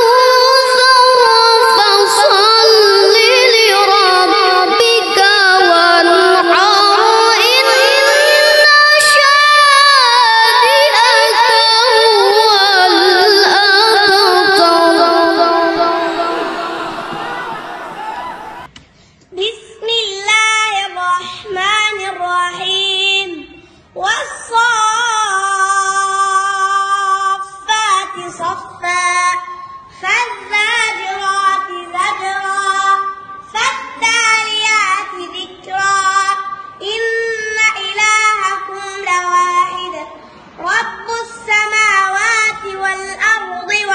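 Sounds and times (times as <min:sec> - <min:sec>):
boy reciting melodically: 0:00.0 - 0:17.0, 0:19.3 - 0:43.9.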